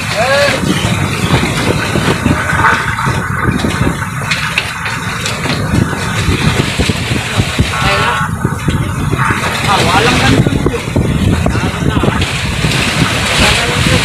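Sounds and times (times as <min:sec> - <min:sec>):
waves washing against boat hull: 0:00.0 - 0:14.0
wind buffeting microphone: 0:00.0 - 0:14.0.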